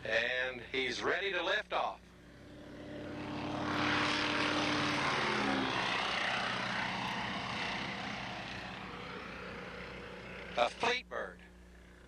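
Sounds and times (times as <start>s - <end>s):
propeller airplane passing: 2.0s - 12.0s.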